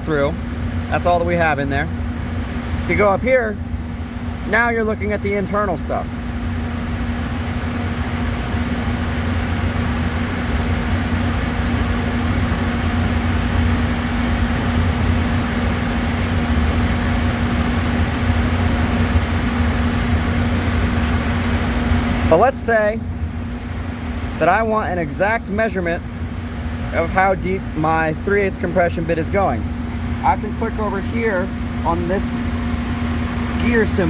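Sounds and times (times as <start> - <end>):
shop machinery hum: 0.0 - 34.0.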